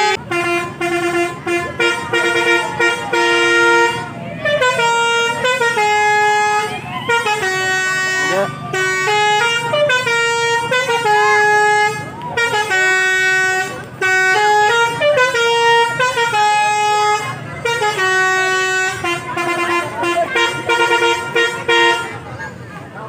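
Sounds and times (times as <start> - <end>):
musical air horn melody: 0.0 - 22.2.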